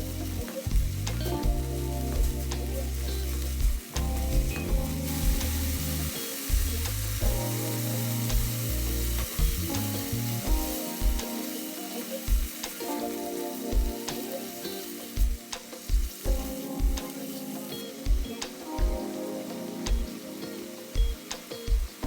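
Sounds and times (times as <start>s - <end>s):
meat sizzling in a pan: 0.0s - 22.0s
music with bass beat: 0.0s - 22.0s.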